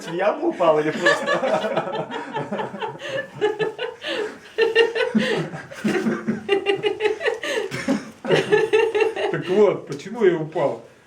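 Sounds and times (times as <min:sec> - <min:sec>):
people laughing: 0:00.0 - 0:09.9.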